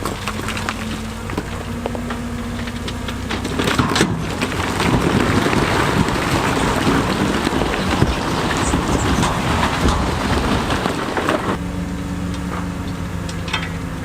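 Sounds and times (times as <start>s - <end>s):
stones tumbling against steel: 0.0s - 11.6s, 12.2s - 14.0s
heavy diesel machinery humming: 0.0s - 14.0s.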